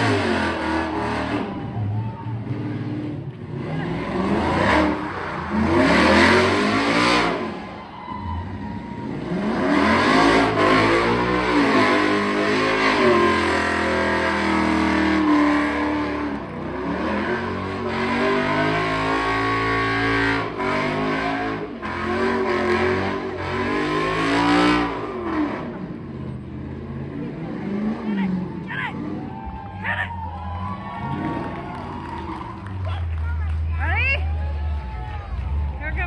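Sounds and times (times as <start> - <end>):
truck engine revving hard: 0.0 - 33.9
tires screeching on pavement: 0.0 - 36.0.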